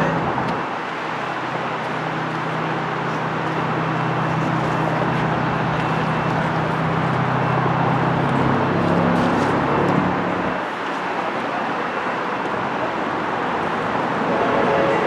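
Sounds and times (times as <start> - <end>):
low engine hum: 0.0 - 15.0
traffic: 0.0 - 15.0.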